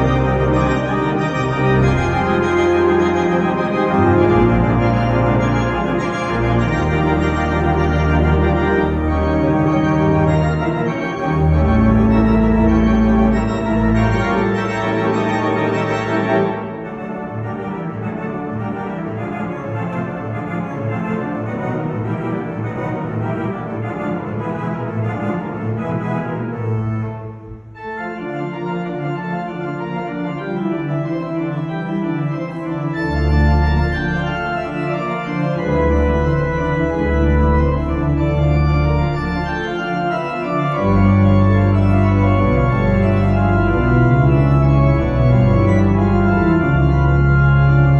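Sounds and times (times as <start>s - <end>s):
church organ chords: 0.0s - 47.9s
deep organ pedal bass notes: 0.0s - 47.9s.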